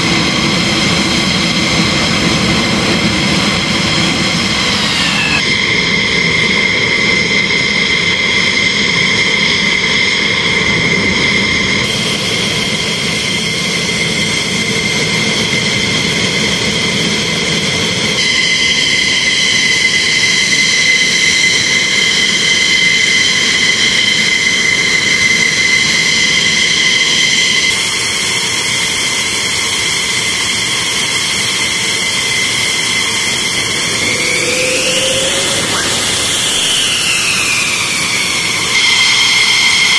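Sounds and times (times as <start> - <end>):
jet engines idling: 0.0 - 25.2, 27.7 - 39.9.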